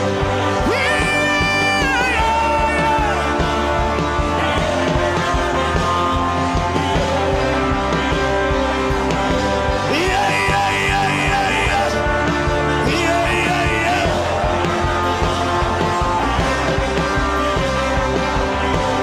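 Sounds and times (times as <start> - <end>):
bass: 0.0 - 19.0
worship band music: 0.0 - 19.0.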